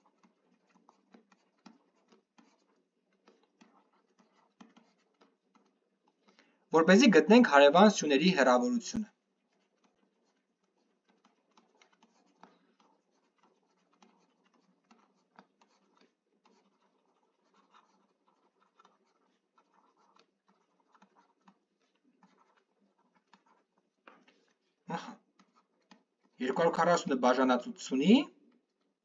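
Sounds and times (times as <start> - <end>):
stylus tapping and scratching on screen: 0.0 - 29.0.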